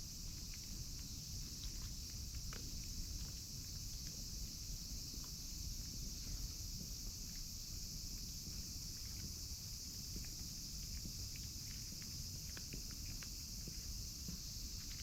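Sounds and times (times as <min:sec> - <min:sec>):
small ticks and clicks: 0:00.0 - 0:15.0.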